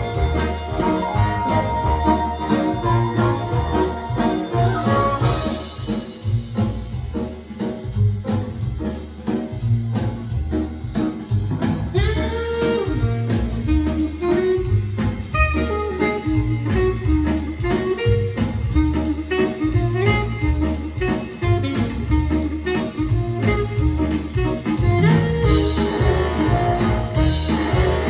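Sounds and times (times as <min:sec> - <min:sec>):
horn line: 0:00.0 - 0:06.4, 0:11.9 - 0:28.0
big band jazz over speaker: 0:00.0 - 0:28.0
drums: 0:00.0 - 0:28.0
low bass vamp: 0:00.0 - 0:28.0.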